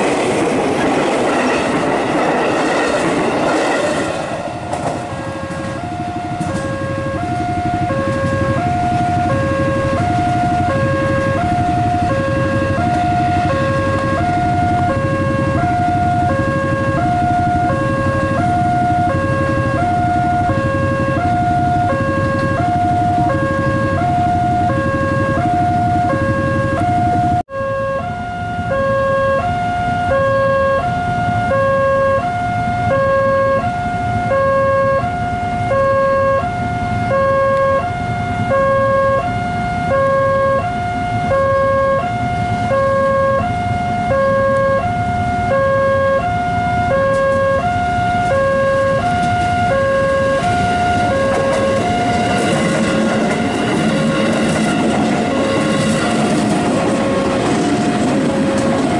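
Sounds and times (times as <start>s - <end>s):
train rumbling: 0.0s - 27.4s, 28.0s - 58.9s
level-crossing two-tone alarm: 0.0s - 58.9s.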